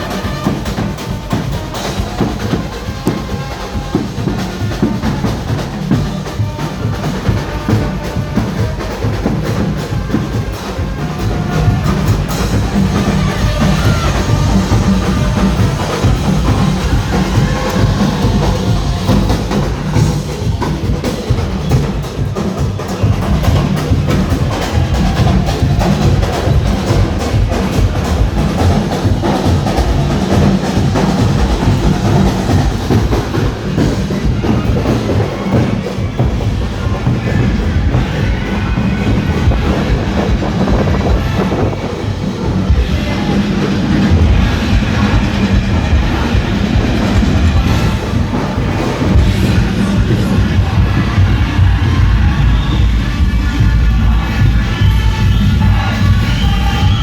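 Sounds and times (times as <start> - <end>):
drums: 0.0 - 57.0
wood-block percussion: 0.0 - 57.0.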